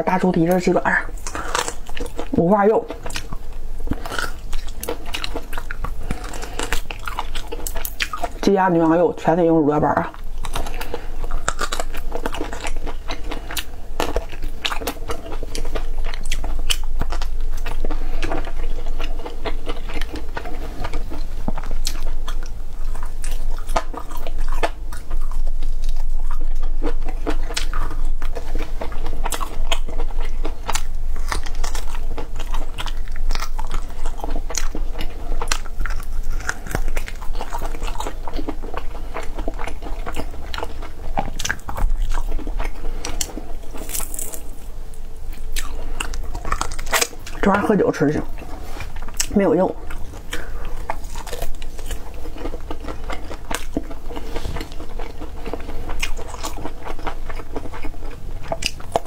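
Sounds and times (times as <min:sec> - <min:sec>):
crunchy chewing of meat: 0:00.0 - 0:59.0.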